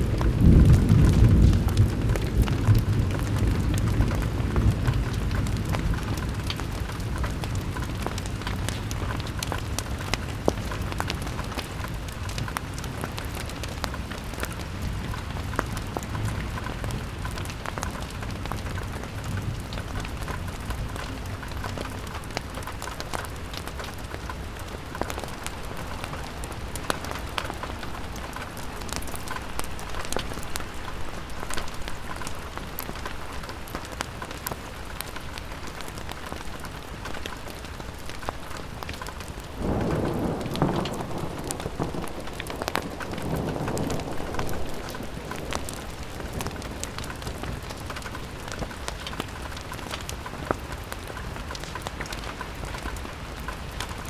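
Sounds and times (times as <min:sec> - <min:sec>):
low rumble of wind: 0:00.0 - 0:54.0
rain pattering on a window: 0:00.0 - 0:54.0.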